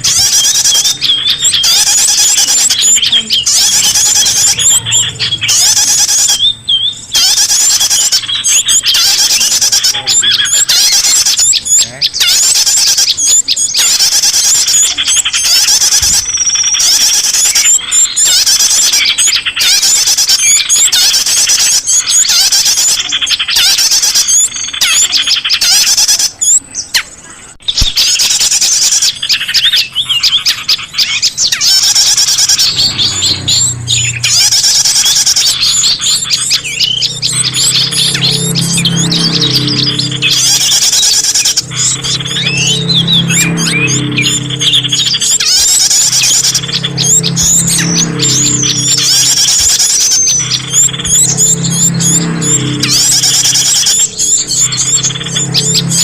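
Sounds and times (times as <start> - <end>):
many small birds chirping: 0.0 - 56.0.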